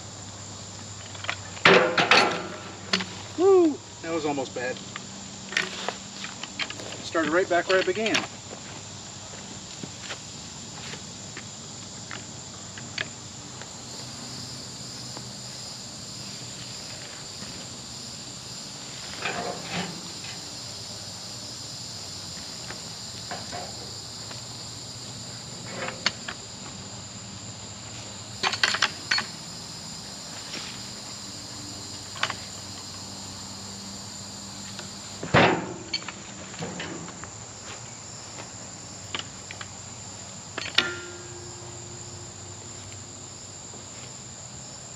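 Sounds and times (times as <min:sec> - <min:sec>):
insect chorus buzzing: 0:00.0 - 0:44.9.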